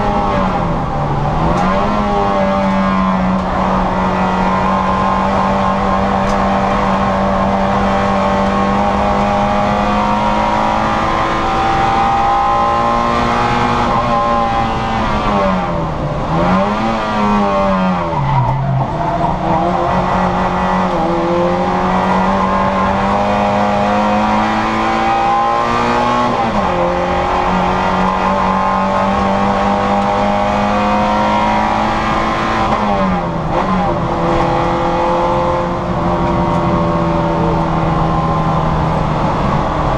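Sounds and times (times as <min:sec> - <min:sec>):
car engine at high revs: 0:00.0 - 0:39.9.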